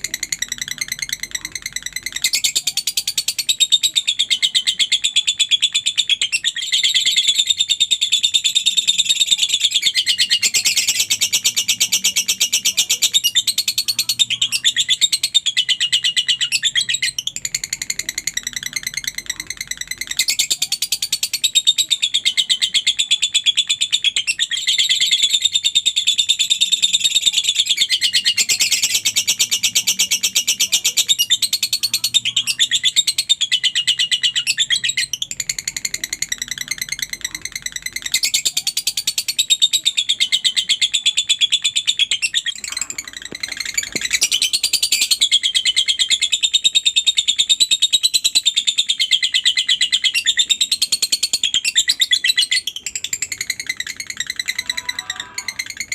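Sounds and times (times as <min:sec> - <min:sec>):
lovebird chattering trill: 0:00.0 - 0:55.9.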